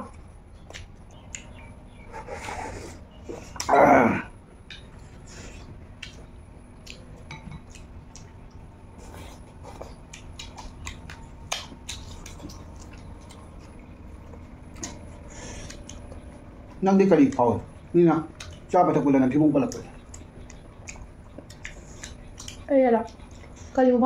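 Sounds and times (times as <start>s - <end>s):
chewing: 0.6s - 3.7s, 4.6s - 18.8s, 19.6s - 23.8s.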